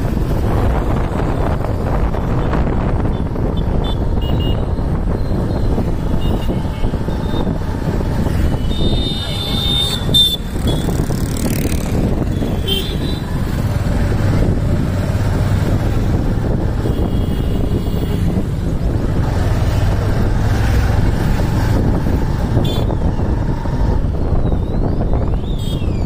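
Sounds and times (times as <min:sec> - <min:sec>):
road traffic: 0:00.0 - 0:26.0
vehicle engine rumble: 0:00.0 - 0:26.0
wind on microphone: 0:00.0 - 0:26.0.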